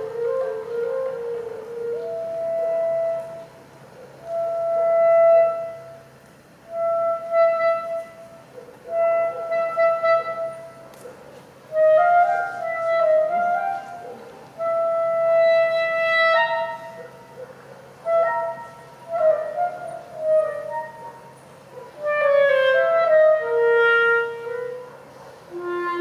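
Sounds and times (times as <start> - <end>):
solo clarinet: 0.0 - 17.4, 18.0 - 21.4, 22.0 - 26.0.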